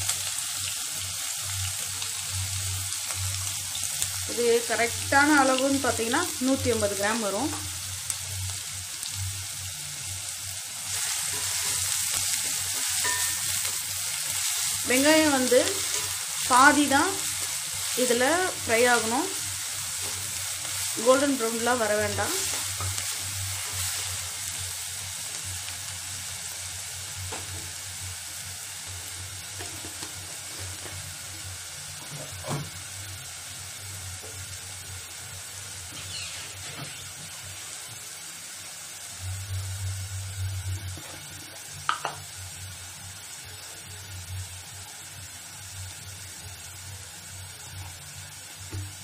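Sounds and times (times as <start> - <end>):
onions sizzling in oil: 0.0 - 49.0.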